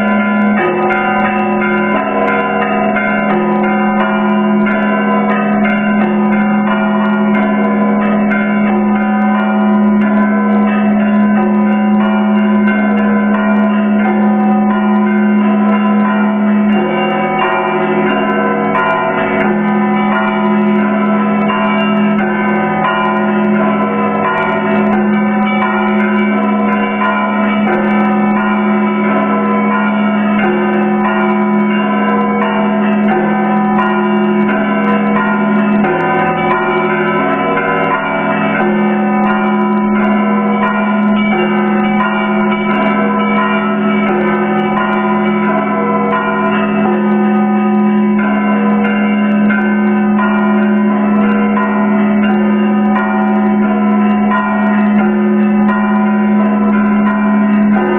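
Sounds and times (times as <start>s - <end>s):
church bells ringing: 0.0s - 57.9s
deep sustained bell tone: 0.0s - 57.9s.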